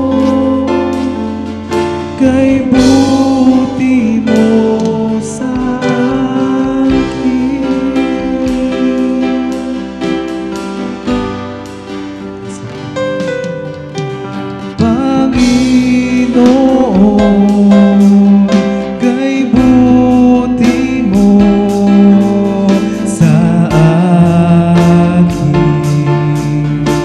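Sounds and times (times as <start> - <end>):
person singing: 0.0 - 11.4, 12.3 - 27.0
guitar and keyboard band music: 0.0 - 27.0.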